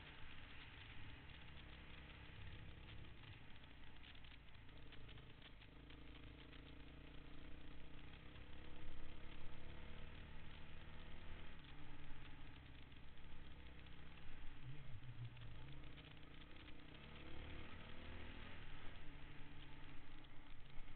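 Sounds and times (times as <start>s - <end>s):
dirt bike engine running: 0.0s - 20.9s.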